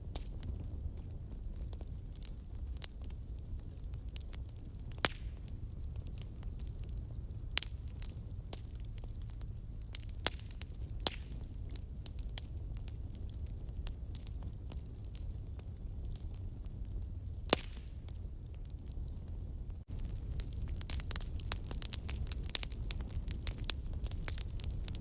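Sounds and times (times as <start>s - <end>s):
campfire flames rumbling: 0.0s - 25.0s
wood crackling and popping: 0.0s - 25.0s.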